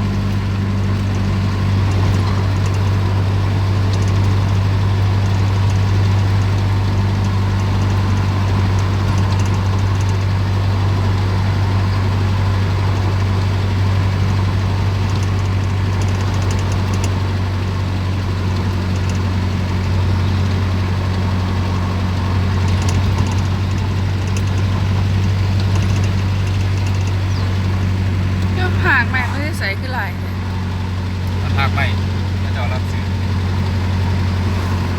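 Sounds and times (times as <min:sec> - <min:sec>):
vehicle engine droning: 0:00.0 - 0:34.9.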